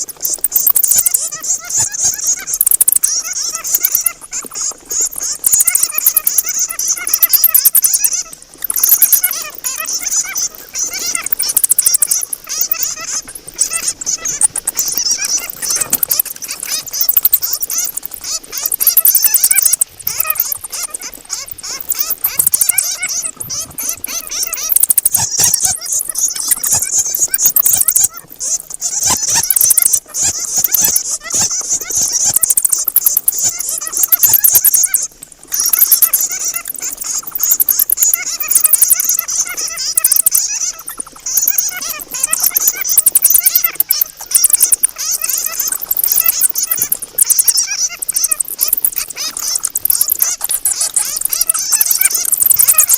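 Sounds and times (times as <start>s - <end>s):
bats chattering: 0.0s - 52.9s.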